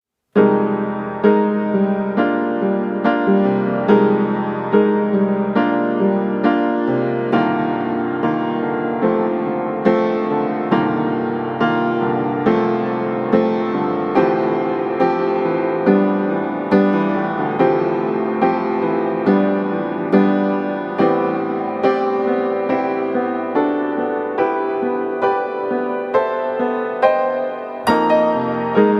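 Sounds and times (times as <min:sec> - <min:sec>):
slow gentle piano music: 0:00.3 - 0:28.9.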